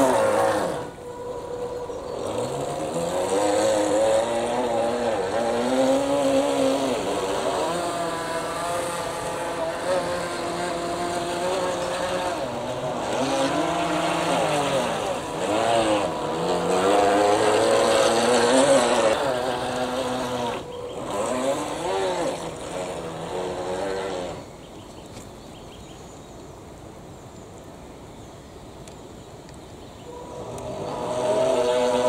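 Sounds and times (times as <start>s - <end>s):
toy boat motor whine: 0.0s - 24.7s, 30.1s - 32.0s.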